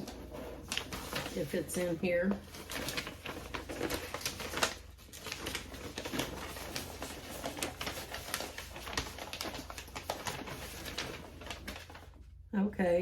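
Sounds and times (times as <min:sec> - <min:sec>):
paper rustling and crinkling: 0:00.0 - 0:12.3.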